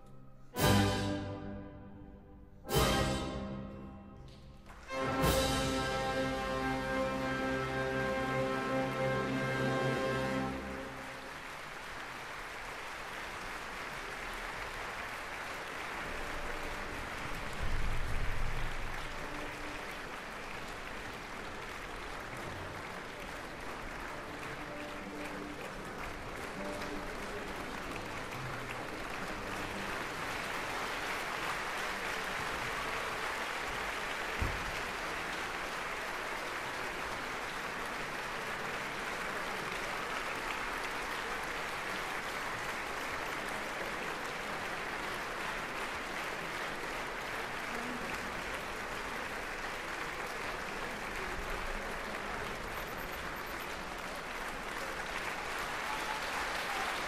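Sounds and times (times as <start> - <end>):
audience applauding: 4.2 - 57.0.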